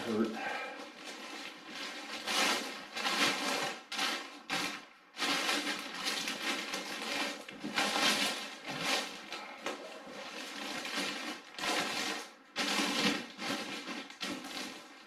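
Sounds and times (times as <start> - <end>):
plastic bag crinkling and rustling: 0.0 - 15.0.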